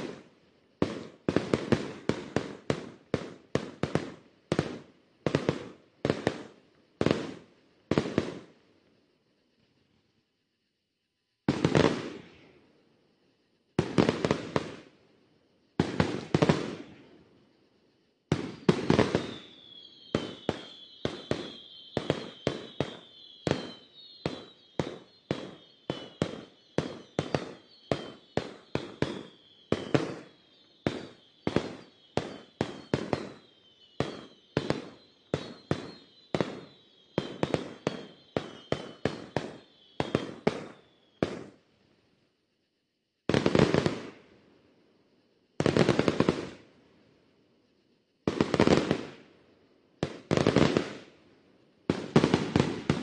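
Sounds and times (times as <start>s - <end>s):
firework bursts: 0.0s - 41.7s, 43.3s - 44.4s, 45.2s - 46.7s, 48.2s - 49.3s, 50.0s - 51.2s, 51.8s - 53.0s
falling firework whistles: 0.0s - 49.4s, 50.0s - 53.0s.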